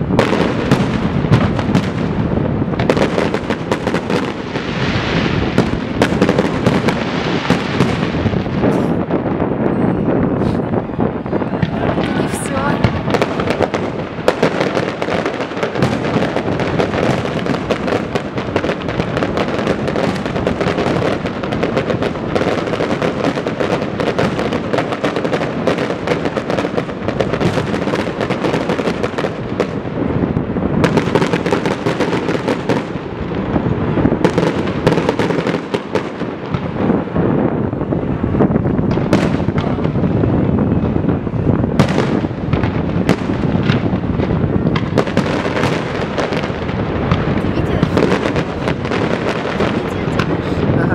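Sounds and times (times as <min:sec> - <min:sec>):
fireworks bangs and crackles: 0:00.0 - 0:50.9
loud fireworks booms: 0:00.0 - 0:50.9.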